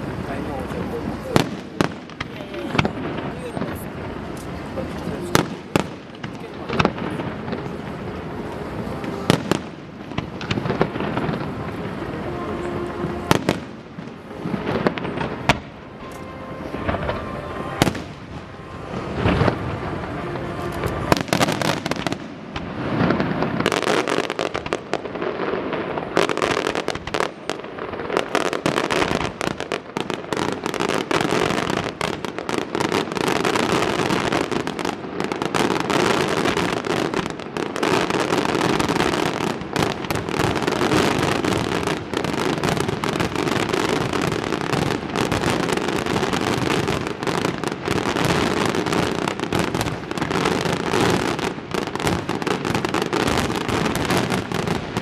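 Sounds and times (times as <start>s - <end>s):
fireworks bursts and crackle: 0.0s - 55.0s.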